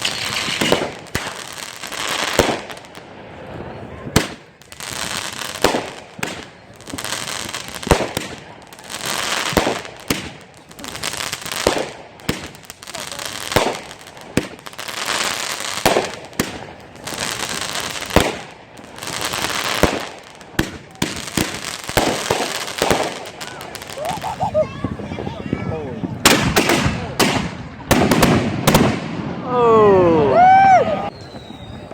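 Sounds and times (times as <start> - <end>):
fireworks crackling hiss: 0.0 - 29.6
fireworks bangs: 0.0 - 31.9.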